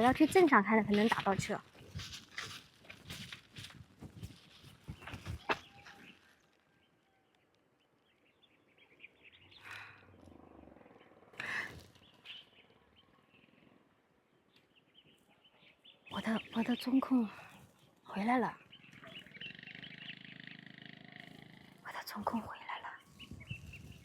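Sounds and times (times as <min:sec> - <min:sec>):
high chirping wildlife: 0:00.0 - 0:07.2, 0:07.8 - 0:24.0.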